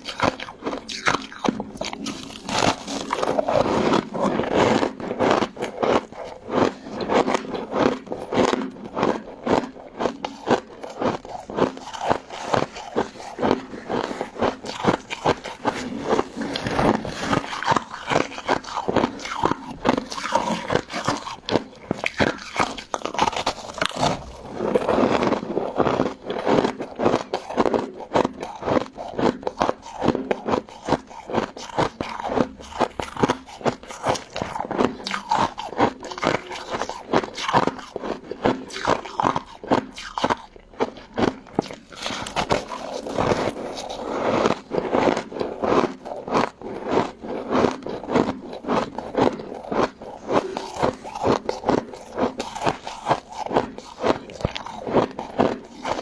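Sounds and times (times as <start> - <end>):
chewing and crunching jelly: 0.0 - 56.0.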